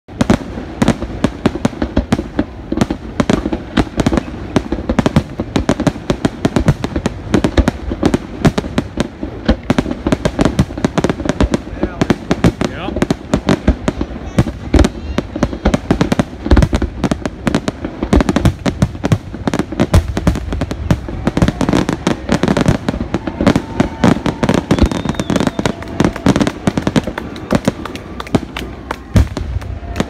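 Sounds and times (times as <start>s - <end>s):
fireworks bursting: 0.1s - 30.0s
fireworks crackling: 0.1s - 30.0s.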